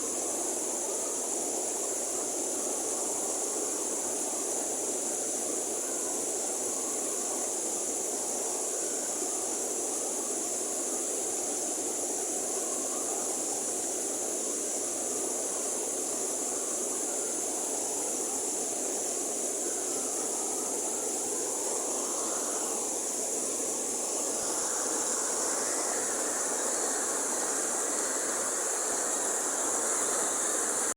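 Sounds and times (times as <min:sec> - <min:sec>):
steady high hiss: 0:00.0 - 0:30.9.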